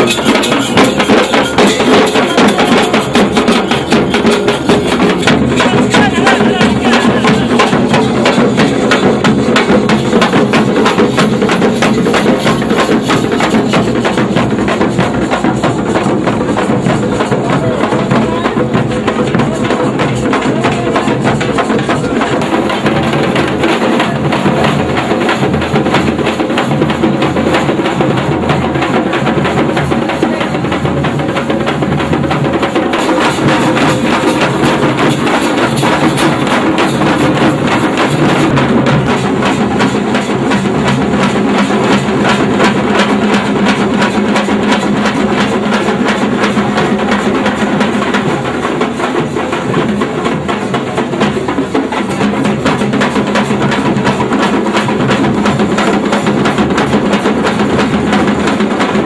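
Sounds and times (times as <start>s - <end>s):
loud music with fast drumming: 0.0s - 59.0s.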